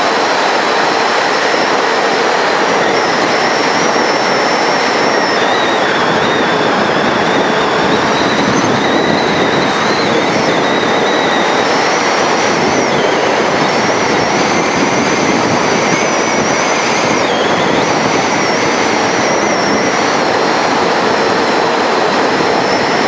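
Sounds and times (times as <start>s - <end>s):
wind rushing over microphone: 0.0s - 23.0s
faint wavering whistle: 1.0s - 23.0s.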